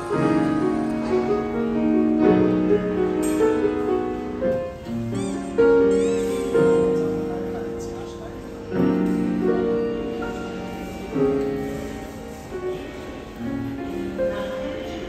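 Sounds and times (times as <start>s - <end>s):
acoustic piano chords and melody: 0.0s - 15.0s.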